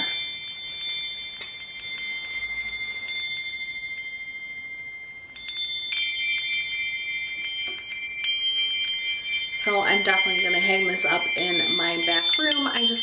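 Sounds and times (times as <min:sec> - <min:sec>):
metal wind chimes ringing: 0:00.0 - 0:13.0.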